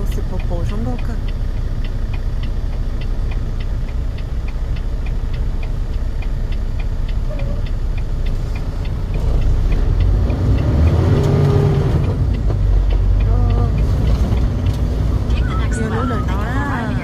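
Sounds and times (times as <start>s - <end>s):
truck cab engine rumble: 0.0s - 17.0s
turn signal ticking: 0.0s - 17.0s.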